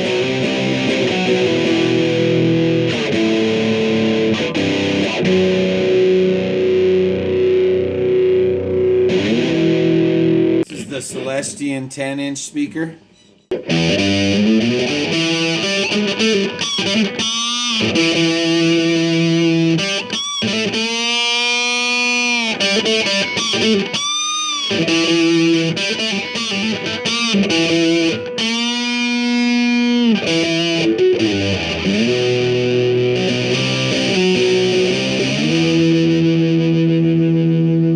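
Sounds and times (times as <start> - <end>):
electric guitar notes and chords: 0.0 - 10.7, 13.5 - 37.9.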